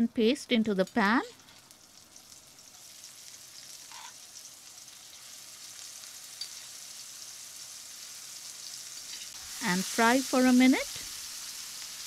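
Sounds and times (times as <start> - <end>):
paste sizzling in frying pan: 0.2 - 12.0.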